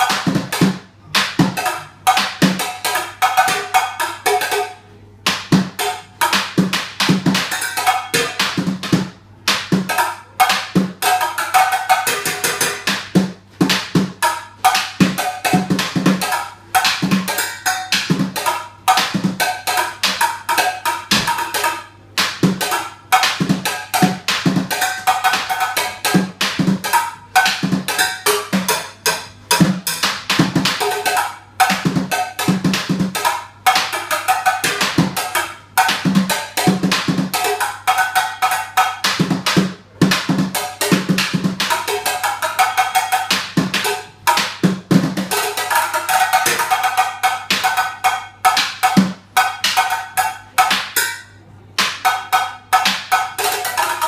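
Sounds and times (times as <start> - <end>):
fast drumming: 0.0 - 51.1.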